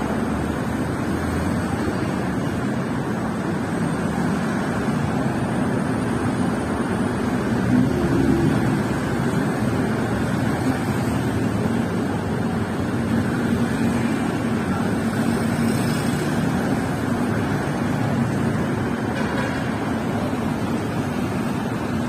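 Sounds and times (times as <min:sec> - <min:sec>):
city street traffic: 0:00.0 - 0:22.0.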